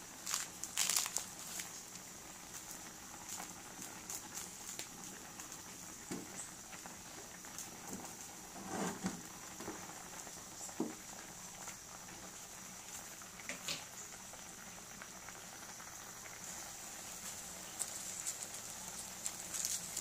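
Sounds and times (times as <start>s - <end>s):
meat boiling in a wok: 0.0s - 20.0s.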